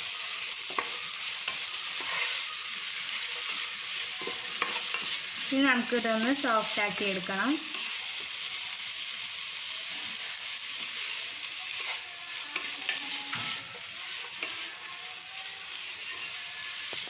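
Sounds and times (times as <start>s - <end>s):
onions sizzling in hot oil: 0.0s - 17.0s
spoon scraping a pan: 0.3s - 8.4s, 9.9s - 17.0s.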